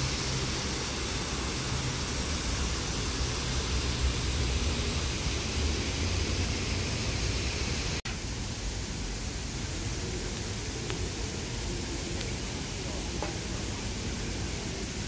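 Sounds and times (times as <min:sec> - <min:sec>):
water pouring down concrete walls: 0:00.0 - 0:15.0.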